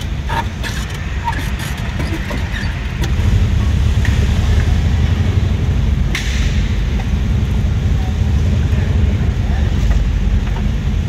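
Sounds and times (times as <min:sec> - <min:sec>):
van engine rumbling: 0:00.0 - 0:11.0.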